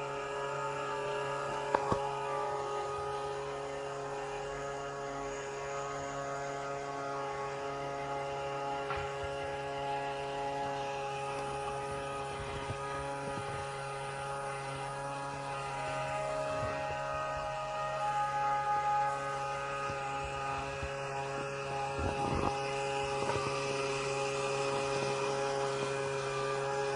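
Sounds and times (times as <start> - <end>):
motor hum with tones: 0.0 - 26.9.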